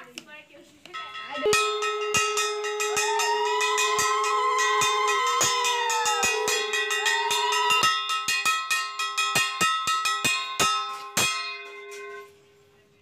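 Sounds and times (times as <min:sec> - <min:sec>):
brass hand bell ringing: 0:01.0 - 0:12.4.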